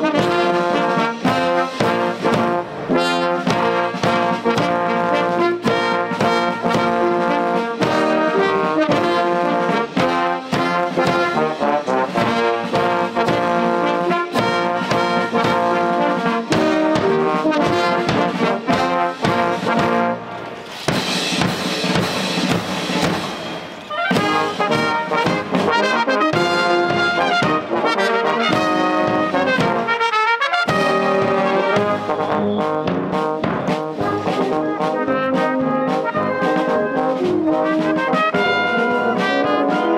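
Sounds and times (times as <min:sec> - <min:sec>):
military brass band playing: 0:00.0 - 0:39.9.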